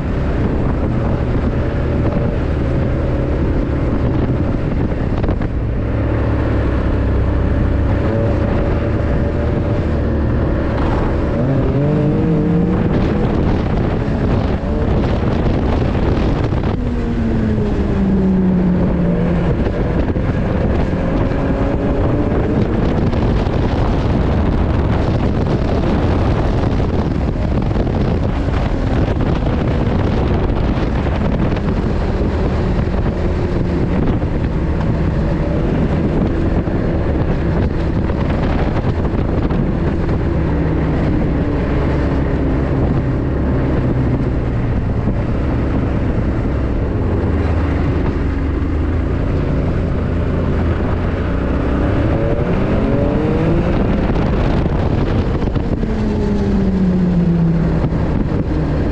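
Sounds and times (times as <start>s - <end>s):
snowmobile engine running: 0.0s - 58.9s
wind buffeting microphone: 0.0s - 58.9s.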